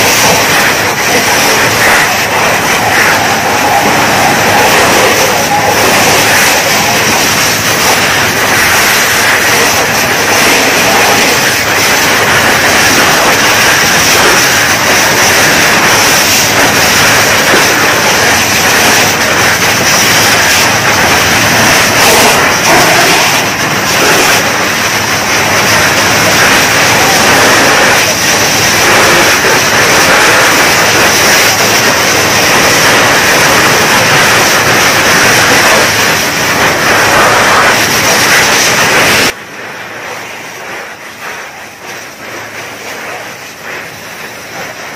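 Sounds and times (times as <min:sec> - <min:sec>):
water jetting from fire hose: 0:00.0 - 0:44.9.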